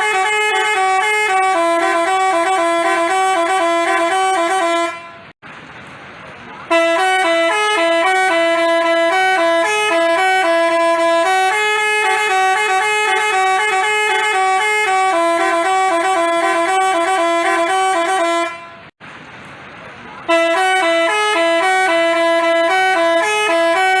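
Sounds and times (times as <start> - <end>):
multi-tone bus horn tune: 0.0 - 5.4, 6.6 - 19.0, 20.2 - 24.0.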